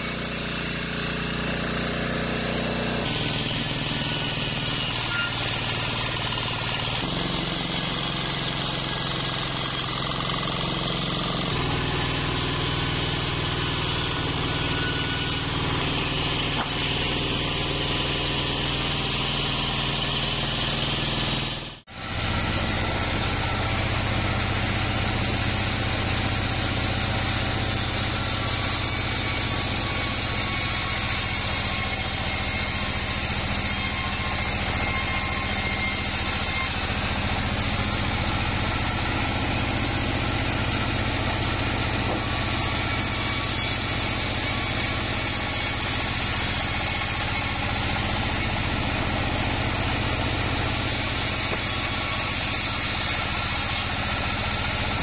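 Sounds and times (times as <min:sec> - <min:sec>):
band saw cutting logs: 0:00.0 - 0:55.0.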